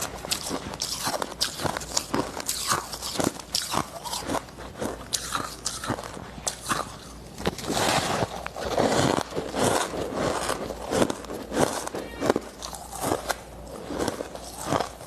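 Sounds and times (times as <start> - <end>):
ice being crunched by teeth: 0.0 - 15.0.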